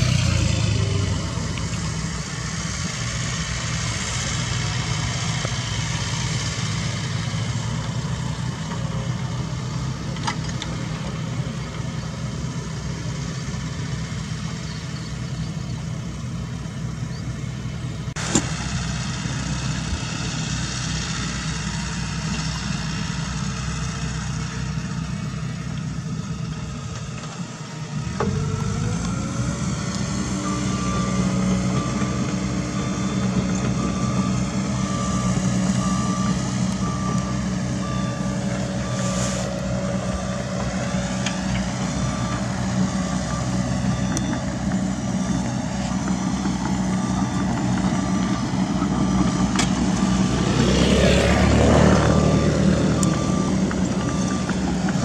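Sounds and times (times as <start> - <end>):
excavator diesel engines running: 0.0 - 55.0.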